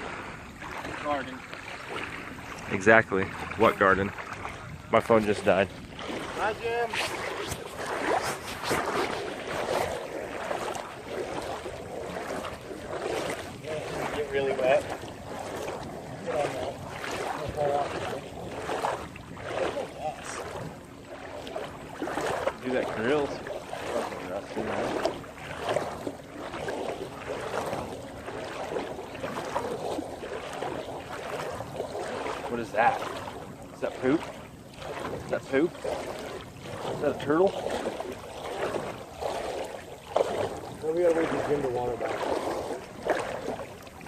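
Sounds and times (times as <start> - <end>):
floodwater sloshing and splashing: 0.0 - 44.0.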